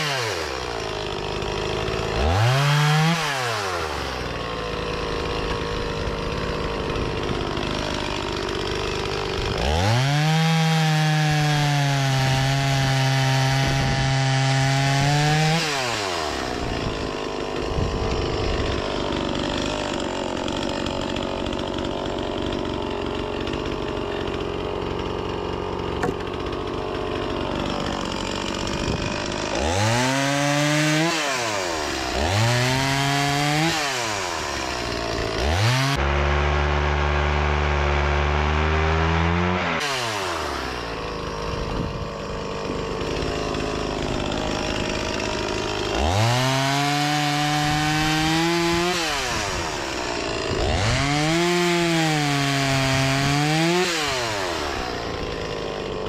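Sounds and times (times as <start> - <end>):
chainsaw cutting wood: 0.0 - 56.0
chainsaw revving: 0.0 - 56.0.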